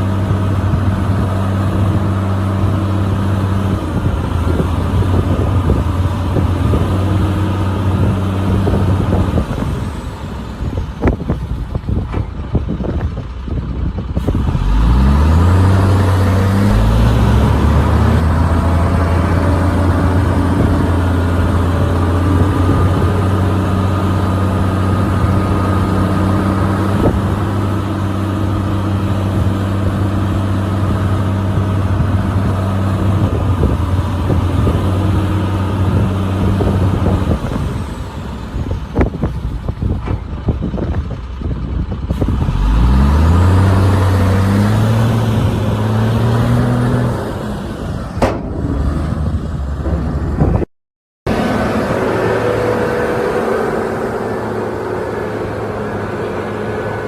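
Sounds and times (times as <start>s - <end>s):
heavy diesel engine running: 0.0s - 50.7s, 51.3s - 57.0s.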